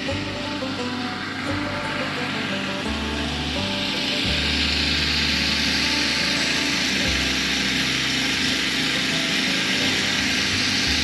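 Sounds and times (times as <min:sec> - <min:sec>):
background music: 0:00.0 - 0:11.0
loud steady hiss: 0:00.0 - 0:11.0.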